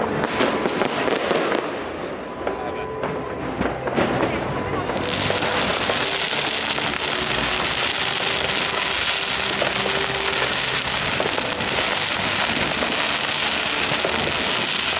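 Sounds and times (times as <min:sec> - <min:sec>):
fireworks crackling: 0:00.0 - 0:02.2, 0:03.6 - 0:14.9.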